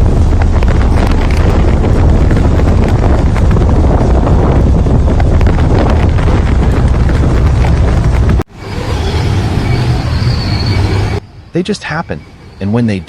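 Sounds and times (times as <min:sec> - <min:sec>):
strong wind on microphone: 0:00.0 - 0:11.3.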